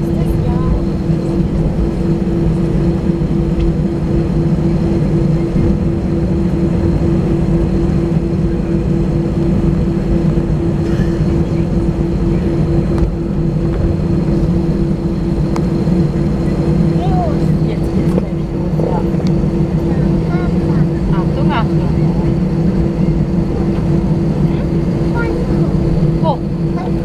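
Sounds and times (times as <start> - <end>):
jet engines humming: 0.0 - 27.0
low rumble: 0.0 - 27.0.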